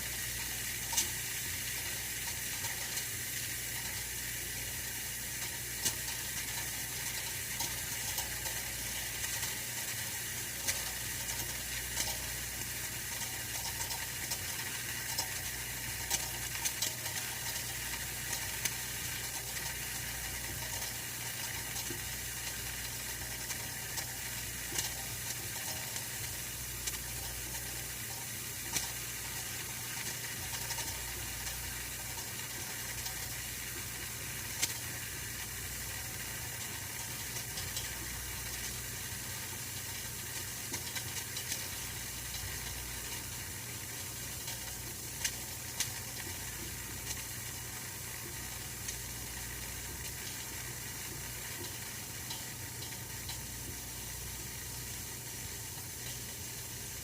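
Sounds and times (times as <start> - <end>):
heater clicks: 0.0 - 57.0
heater hiss and hum: 0.0 - 57.0.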